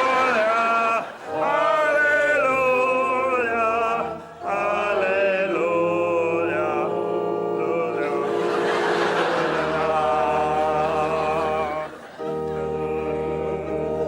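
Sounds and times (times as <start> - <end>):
choir singing long notes: 0.0 - 14.0.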